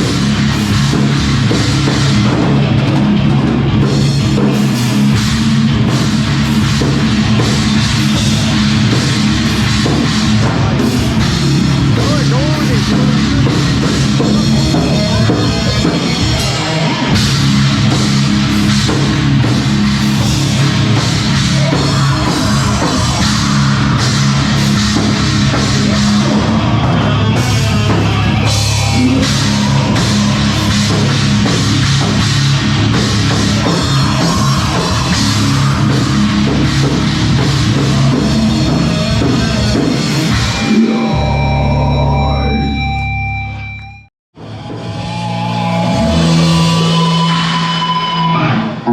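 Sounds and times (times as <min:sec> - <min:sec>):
loud heavy rock band: 0:00.0 - 0:48.9.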